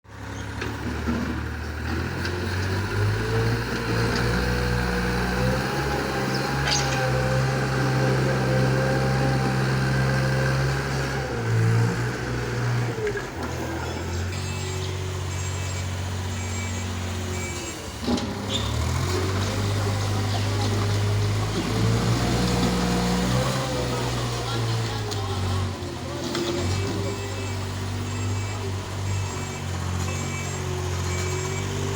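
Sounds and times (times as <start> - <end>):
heavy machinery engine running: 0.1 - 31.9.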